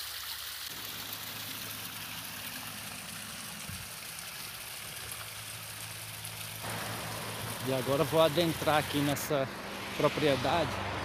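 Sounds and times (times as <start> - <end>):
waterfall splashing into pool: 0.0 - 11.0.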